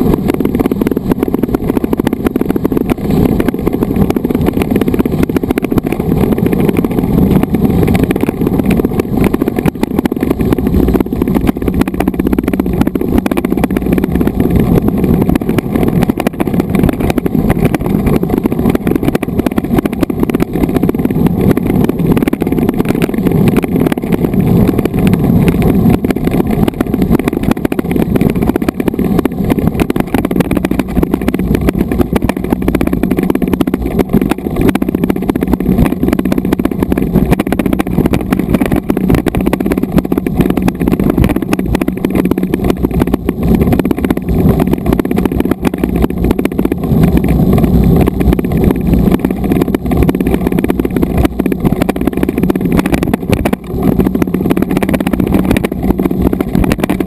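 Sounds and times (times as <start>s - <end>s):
bike tyre and frame rumble: 0.0s - 57.0s
wind on microphone: 0.0s - 57.0s.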